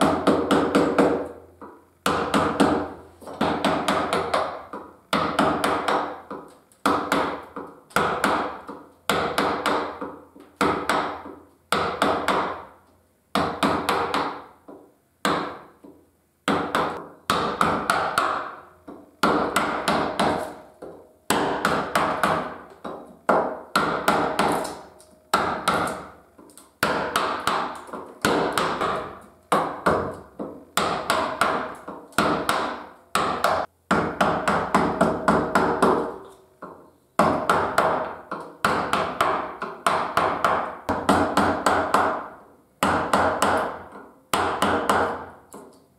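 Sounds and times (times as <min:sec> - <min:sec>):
wooden mallet striking chisel: 0:00.0 - 0:12.7, 0:13.3 - 0:45.8.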